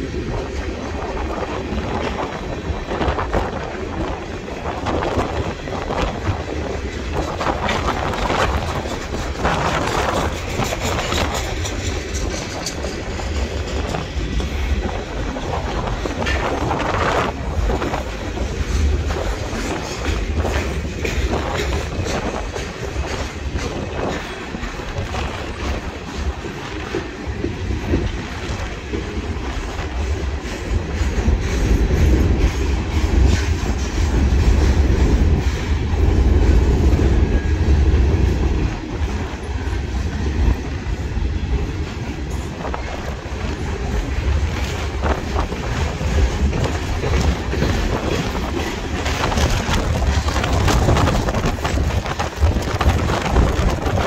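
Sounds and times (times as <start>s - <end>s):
freight train rolling past: 0.0s - 54.0s
wheels clicking over rail joints: 0.0s - 54.0s
wind buffeting microphone: 0.0s - 54.0s.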